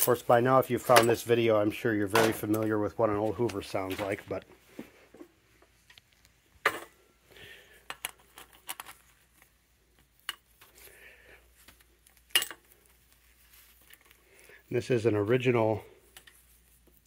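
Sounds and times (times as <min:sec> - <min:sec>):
cord rustling: 0:00.0 - 0:17.0.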